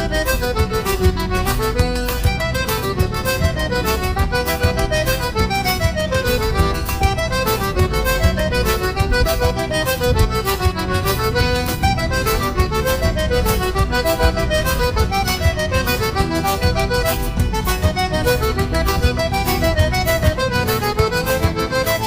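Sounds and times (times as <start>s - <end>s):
accordion melody: 0.0s - 22.0s
percussion beat: 0.1s - 22.0s.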